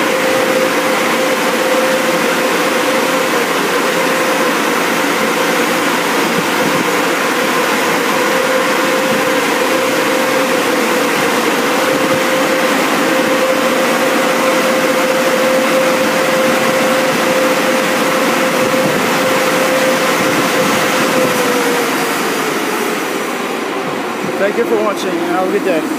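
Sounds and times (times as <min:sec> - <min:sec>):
air dryer blowers rushing: 0:00.0 - 0:25.9
steady hum: 0:00.0 - 0:25.9.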